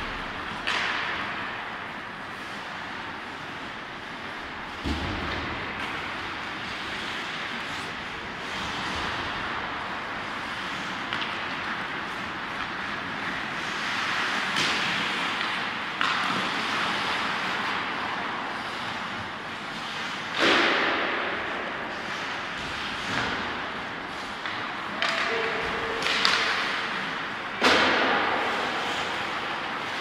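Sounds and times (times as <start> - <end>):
hockey sticks and puck clacking: 0.0 - 30.0
skate blades scraping on ice: 0.0 - 30.0.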